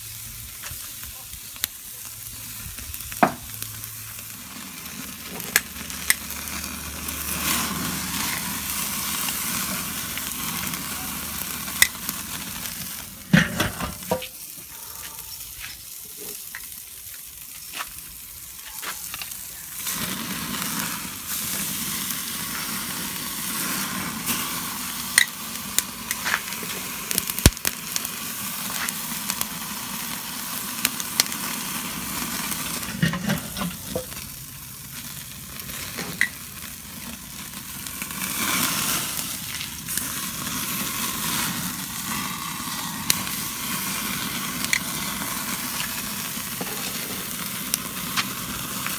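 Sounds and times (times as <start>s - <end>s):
meat sizzling on a grill: 0.0s - 48.9s.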